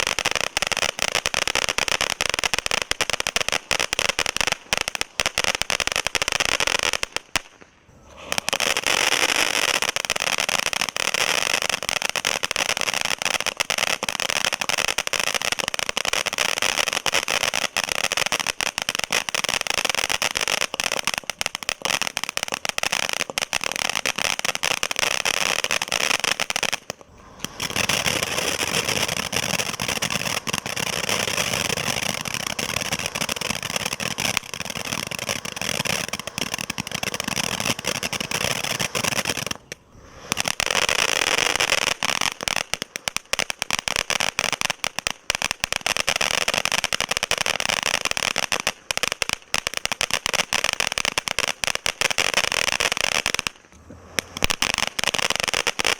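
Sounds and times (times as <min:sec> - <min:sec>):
firework fountains hissing and crackling: 0:00.0 - 0:55.9.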